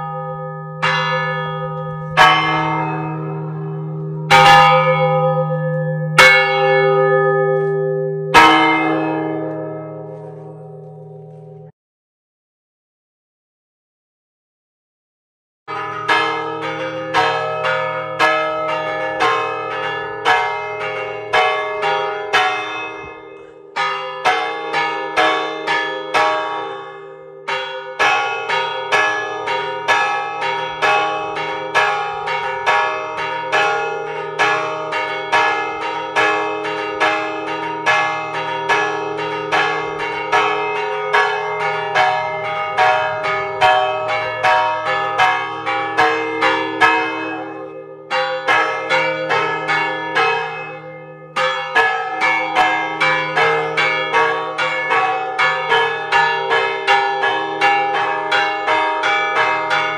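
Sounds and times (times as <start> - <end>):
church bells pealing: 0.0 - 11.7, 15.7 - 59.9.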